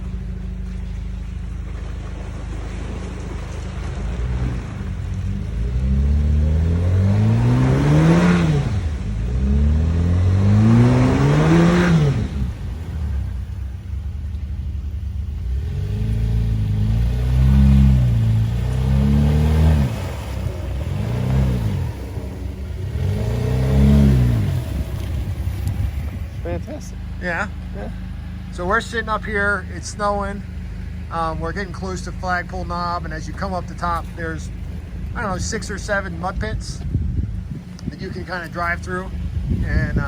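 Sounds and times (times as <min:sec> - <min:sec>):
engine revving hard: 0:01.8 - 0:40.0.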